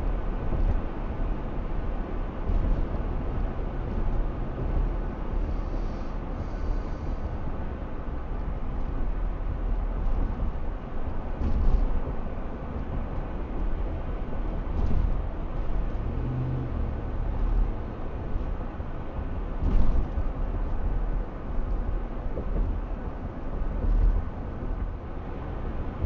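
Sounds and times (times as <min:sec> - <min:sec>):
thumps from road bumps: 0:00.0 - 0:06.9, 0:08.4 - 0:26.0
road and tyre noise: 0:00.0 - 0:26.0.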